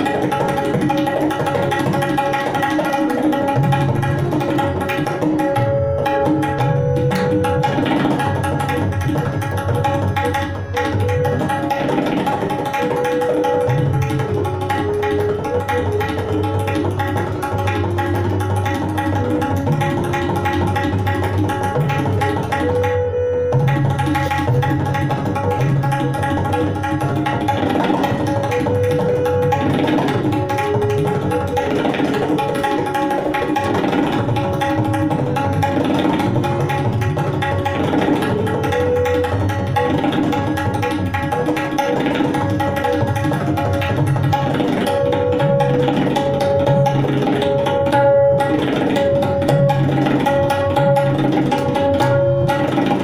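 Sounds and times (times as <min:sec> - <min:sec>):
harmonium melody: 0:00.0 - 0:53.0
tabla strokes: 0:00.0 - 0:53.0.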